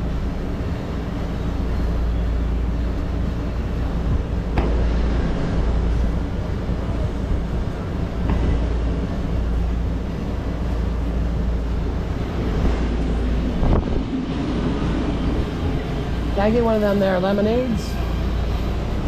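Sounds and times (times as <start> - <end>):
low machine drone: 0.0 - 19.0.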